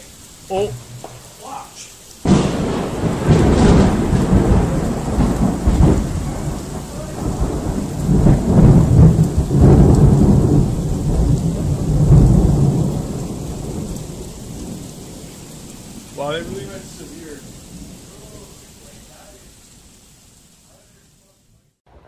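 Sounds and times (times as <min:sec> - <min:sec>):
thunder rumbling: 0:00.0 - 0:19.9
steady rain: 0:00.0 - 0:22.0.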